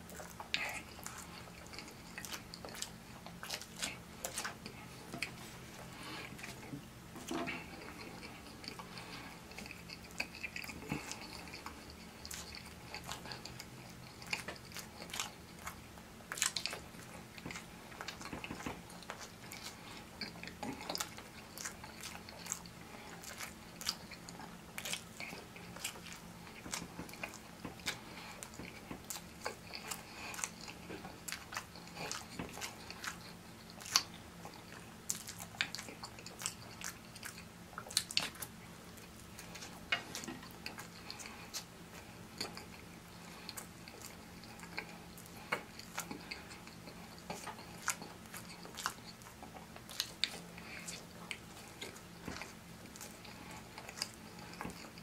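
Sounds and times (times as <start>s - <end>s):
chewing and biting: 0.0s - 55.0s
steady low hum: 0.0s - 55.0s.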